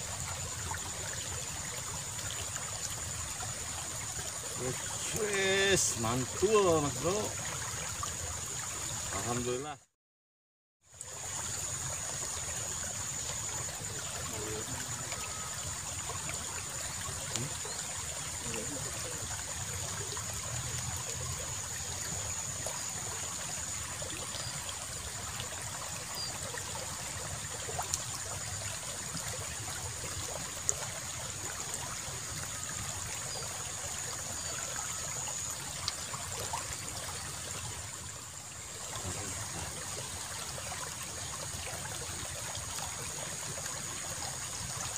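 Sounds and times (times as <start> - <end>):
water trickling in a ditch: 0.0 - 9.9, 10.8 - 44.9.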